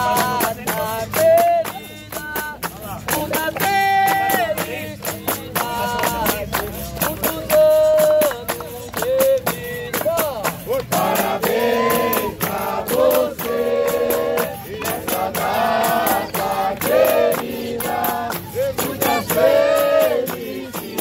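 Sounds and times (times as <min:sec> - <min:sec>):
group singing in chorus: 0:00.0 - 0:21.0
hand-clapping: 0:00.0 - 0:21.0
tambourine beats: 0:00.0 - 0:21.0.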